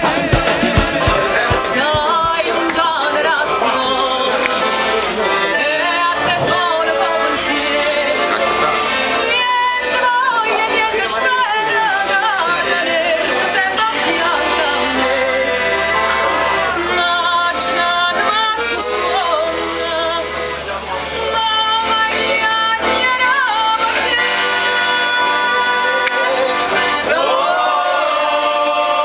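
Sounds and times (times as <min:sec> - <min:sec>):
woman singing with vibrato: 0:00.0 - 0:08.3, 0:09.2 - 0:16.0, 0:16.8 - 0:20.5, 0:21.2 - 0:26.0
accordion: 0:00.0 - 0:29.0.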